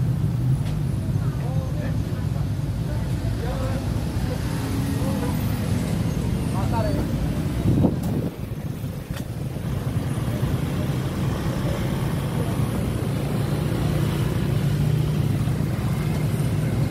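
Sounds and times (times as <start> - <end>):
low engine hum: 0.0 - 16.9
motorbikes riding past: 3.0 - 16.9.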